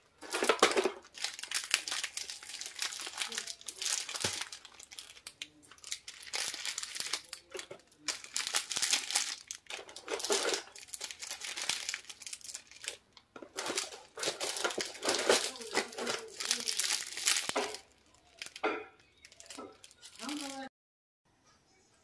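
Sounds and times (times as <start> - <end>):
plastic wrappers crinkling: 0.0 - 20.7.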